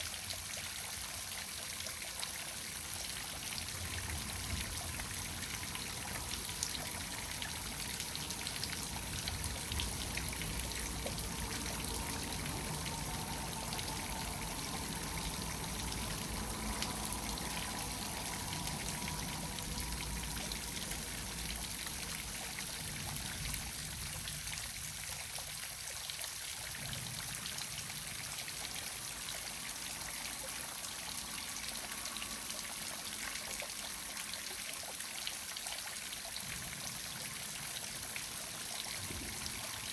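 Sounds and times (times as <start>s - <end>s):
water trickling: 0.0s - 39.9s
waterfall pouring and splashing: 0.0s - 39.9s.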